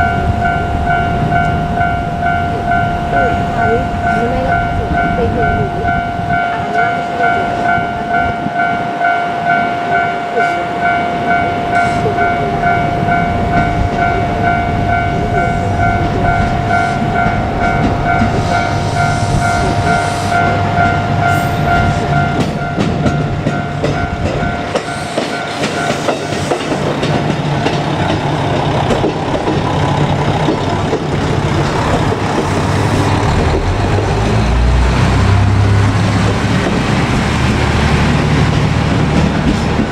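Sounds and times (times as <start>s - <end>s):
diesel railcar rumbling by: 0.0s - 39.9s
level-crossing warning bell: 0.0s - 39.9s.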